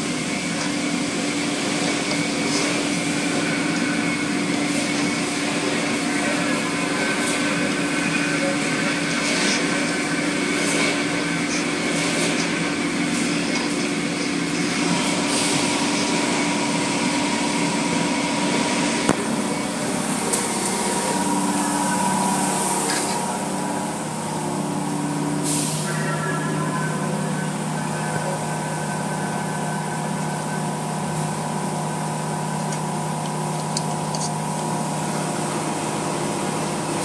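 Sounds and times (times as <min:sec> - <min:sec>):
car wash machinery hum: 0:00.0 - 0:37.0.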